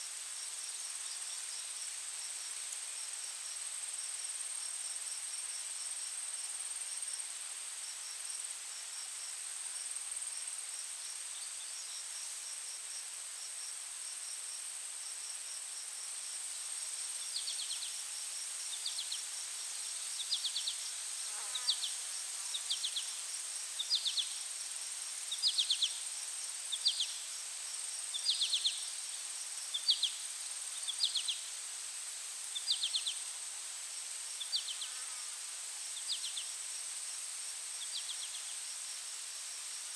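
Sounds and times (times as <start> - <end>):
insect pulsed chirp: 0.4 - 39.9.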